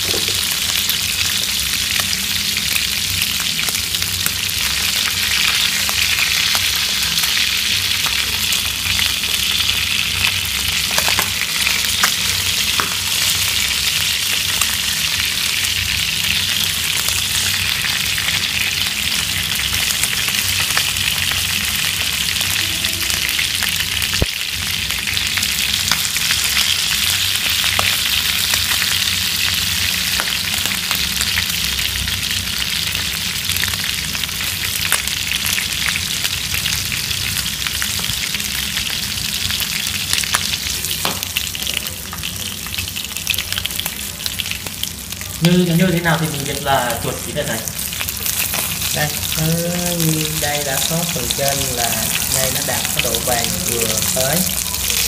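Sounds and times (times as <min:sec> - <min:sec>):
meat sizzling in oil: 0:00.0 - 0:55.0.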